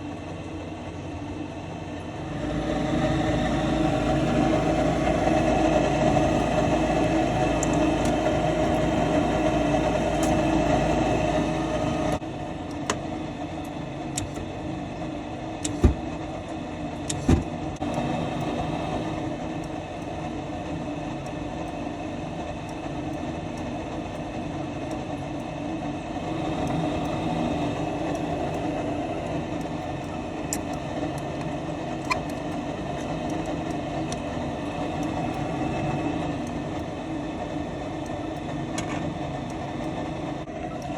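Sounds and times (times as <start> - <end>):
motor hum: 0.0 - 40.9.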